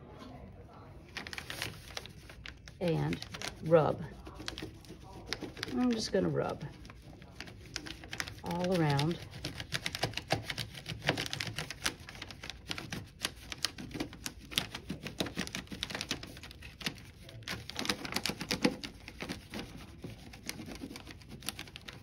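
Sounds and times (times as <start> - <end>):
crayon scratching on paper: 1.2 - 22.0.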